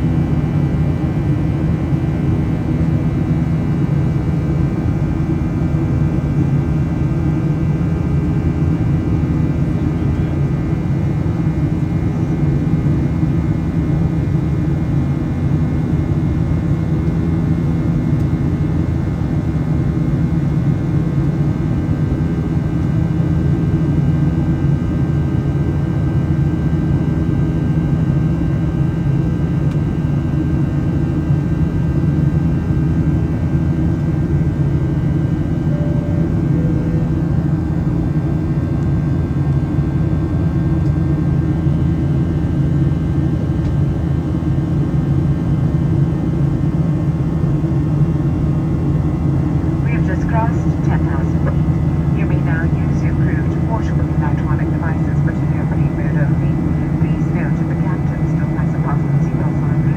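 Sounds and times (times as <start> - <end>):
faint steady whines: 0.0 - 59.9
jet engine cabin drone: 0.0 - 59.9.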